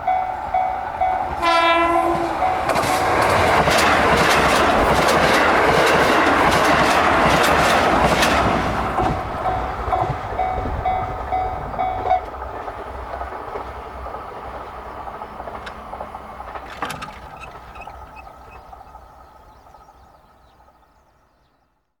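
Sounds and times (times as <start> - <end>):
diesel train passing: 0.0 - 21.6.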